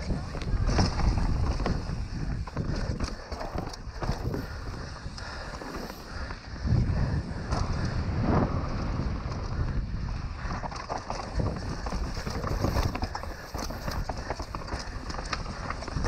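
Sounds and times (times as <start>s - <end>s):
mountain bike rattling and clicking: 0.0s - 16.0s
wind rumble on microphone: 0.0s - 16.0s.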